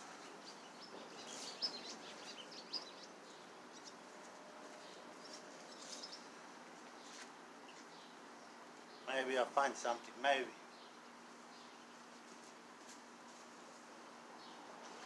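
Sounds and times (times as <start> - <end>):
birds chirping: 0.0 - 12.4
faint outdoor background hiss: 0.0 - 15.0.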